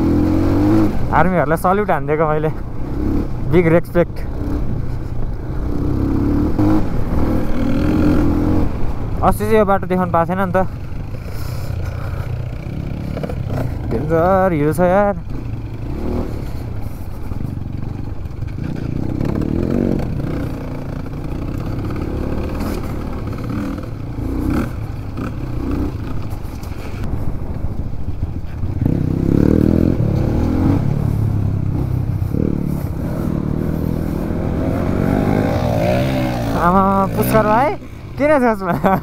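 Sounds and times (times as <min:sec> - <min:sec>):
motorcycle engine revving: 0:00.0 - 0:27.1, 0:28.2 - 0:39.0.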